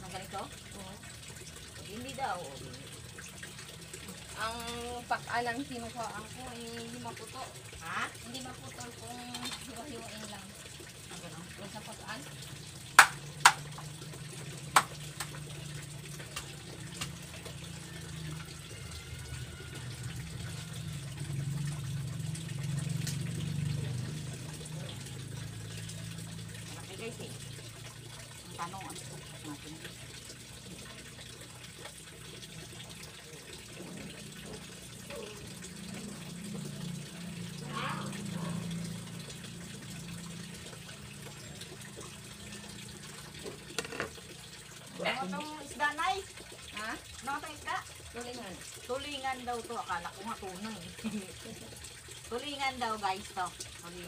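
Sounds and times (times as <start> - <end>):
fish being washed: 0.0 - 54.0
water running: 0.0 - 54.0.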